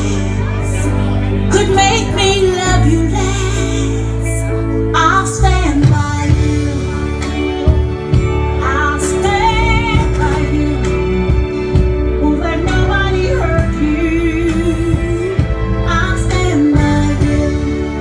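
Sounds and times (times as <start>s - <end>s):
woman singing with vibrato: 0.0s - 7.5s, 8.5s - 11.5s, 12.1s - 18.0s
low bass line: 0.0s - 18.0s.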